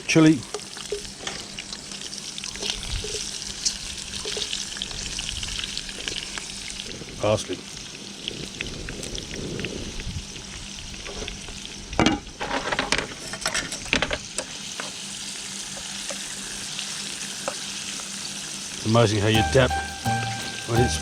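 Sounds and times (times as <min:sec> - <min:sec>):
seafood sizzling in a frying pan: 0:00.0 - 0:18.9.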